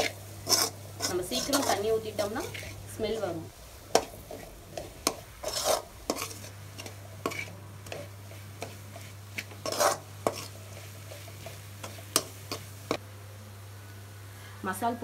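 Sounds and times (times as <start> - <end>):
ladle scraping pan: 0.0 - 3.3, 3.9 - 13.0
food frying in oil: 0.0 - 13.0.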